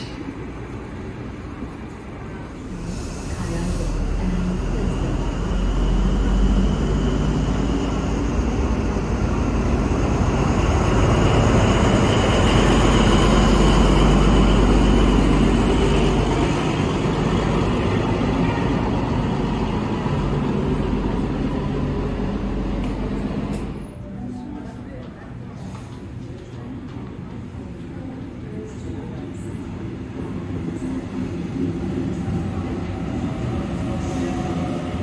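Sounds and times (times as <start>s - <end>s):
train rumbling on rails: 0.0s - 35.0s.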